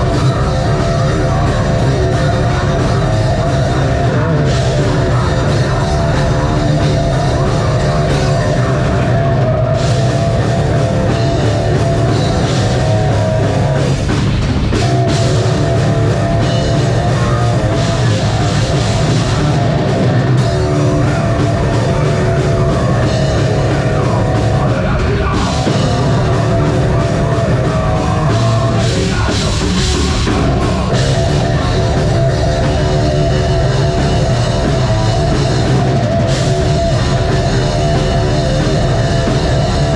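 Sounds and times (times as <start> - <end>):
metal band playing: 0.0 - 39.9.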